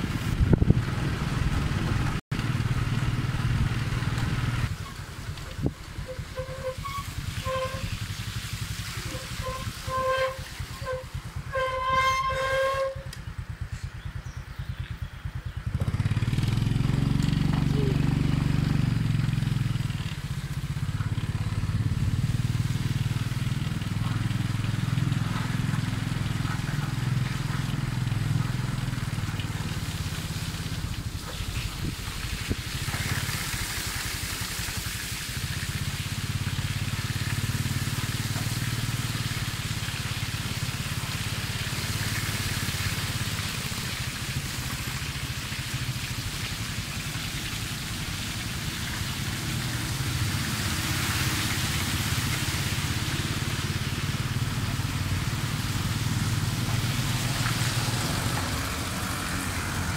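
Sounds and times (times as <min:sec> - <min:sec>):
tyres hissing on wet road: 0:00.0 - 0:14.2, 0:14.8 - 0:59.9
small motorbike engine running: 0:00.0 - 0:59.9.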